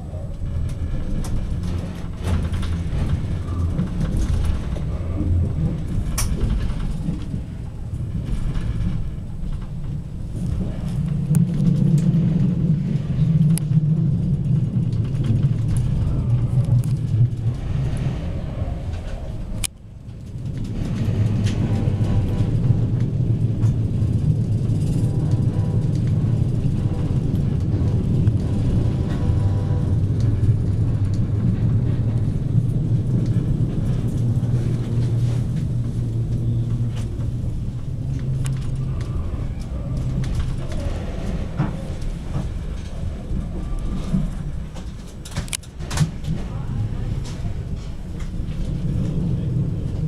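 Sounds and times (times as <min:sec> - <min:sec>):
train rumbling on tracks: 0:00.0 - 0:50.0.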